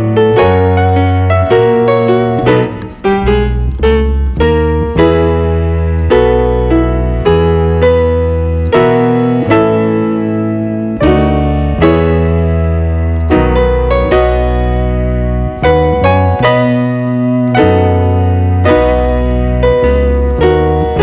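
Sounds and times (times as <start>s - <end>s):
calm piano chords: 0.0s - 21.0s.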